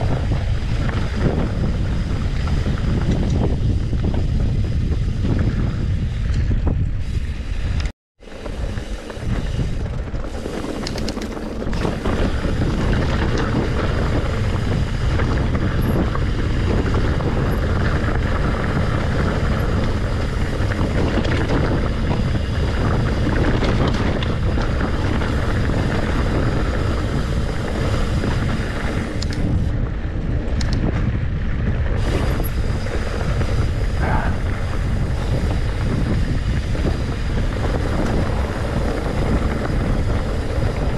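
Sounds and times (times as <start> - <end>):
bike tyres rattling on dirt trail: 0.0 - 40.9
wind buffeting microphone: 0.0 - 40.9.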